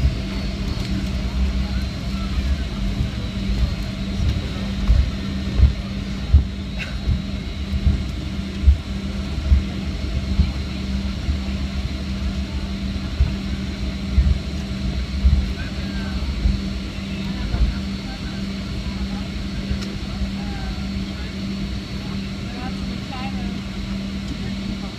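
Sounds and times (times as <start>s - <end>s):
plane cabin engine drone: 0.0s - 24.9s.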